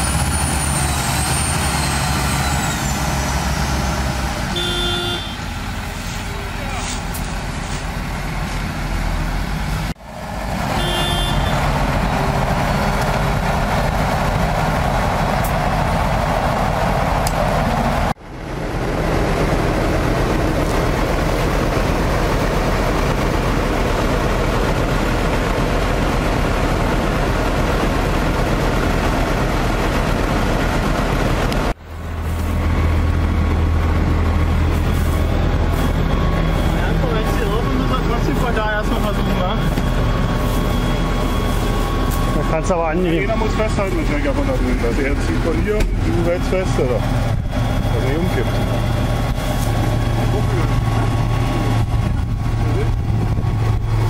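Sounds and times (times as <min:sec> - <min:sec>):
tractor diesel engines rumbling: 0:00.0 - 0:54.0.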